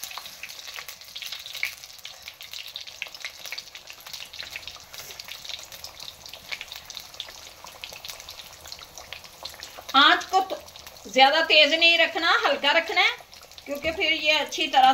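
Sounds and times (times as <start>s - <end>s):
food frying with pops and crackles: 0.0s - 14.9s.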